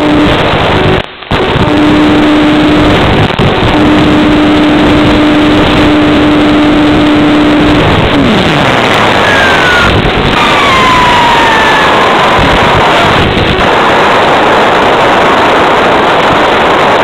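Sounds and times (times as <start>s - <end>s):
electric motor and propeller whine: 0.0s - 17.0s
heavy wind noise: 0.0s - 17.0s.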